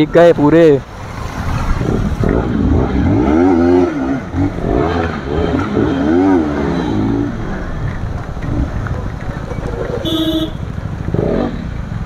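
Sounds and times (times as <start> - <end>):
motorcycle engine revving: 1.0 - 12.0.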